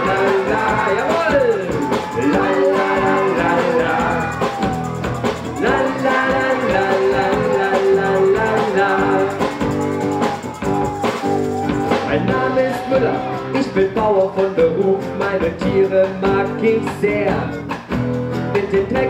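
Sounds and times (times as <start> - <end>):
person singing: 0.0 - 4.9, 5.5 - 17.6
acoustic bass guitar: 0.0 - 19.0
drum kit playing: 0.0 - 19.0.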